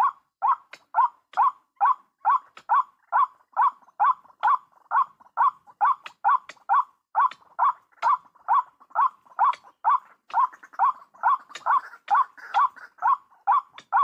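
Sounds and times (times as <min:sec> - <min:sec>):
waterhen calling: 0:00.0 - 0:14.0.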